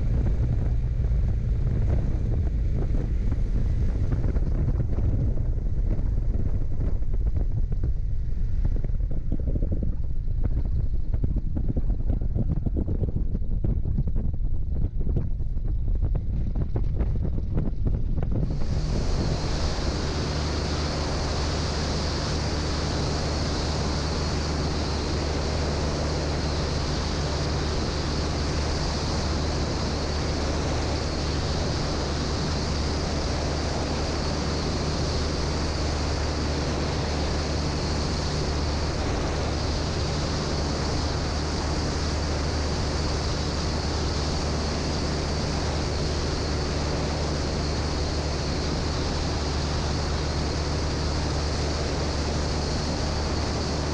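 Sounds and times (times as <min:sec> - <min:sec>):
airplane engine humming: 0:00.0 - 0:53.9
wind and propeller wash rushing: 0:00.0 - 0:53.9.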